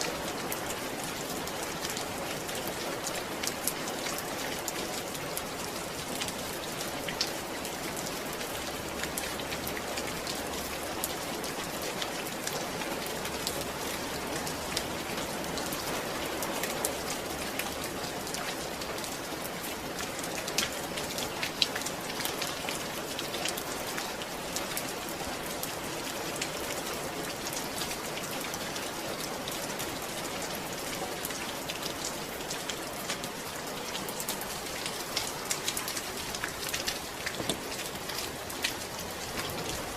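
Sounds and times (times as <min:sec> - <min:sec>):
raindrops ticking on a surface: 0:00.0 - 0:39.9
steady rain: 0:00.0 - 0:39.9.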